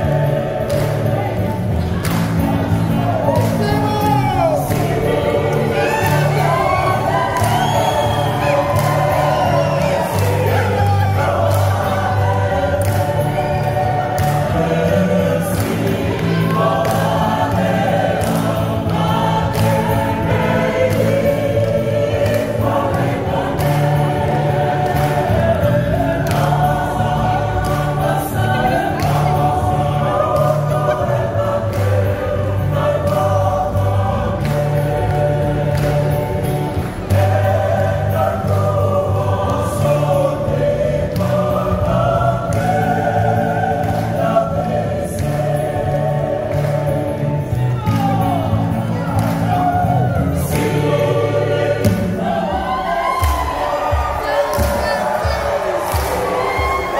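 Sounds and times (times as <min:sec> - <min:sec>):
women's choir singing in harmony: 0:00.0 - 0:56.9.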